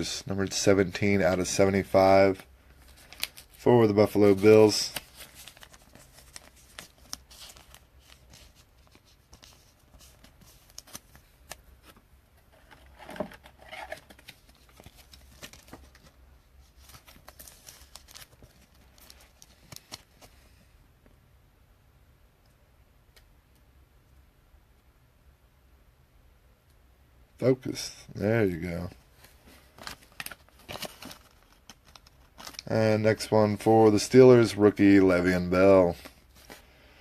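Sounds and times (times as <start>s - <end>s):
cards and plastic sleeves rustling: 0.0s - 20.7s, 27.4s - 36.8s.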